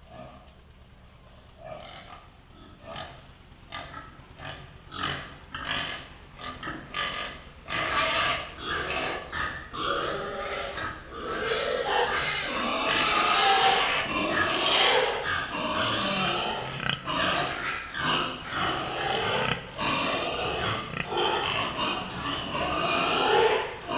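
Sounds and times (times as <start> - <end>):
pigs grunting and calling: 0.0 - 0.6, 1.2 - 23.9.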